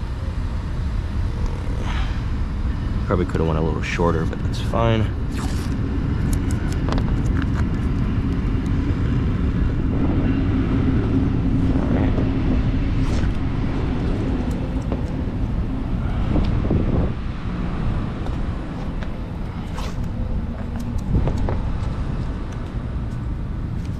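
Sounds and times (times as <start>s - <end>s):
steady hum: 0.0s - 23.9s
vehicle engine rumbling: 0.0s - 23.9s.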